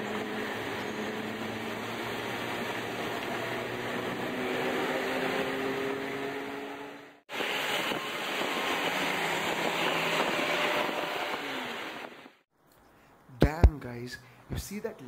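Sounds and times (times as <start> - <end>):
car road and wind noise: 0.0 - 12.4.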